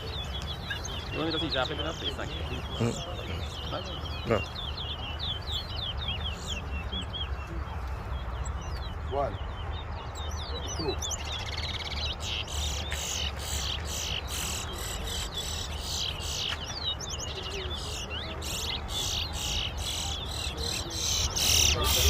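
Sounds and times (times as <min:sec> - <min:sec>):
finches chirping: 0:00.0 - 0:22.0.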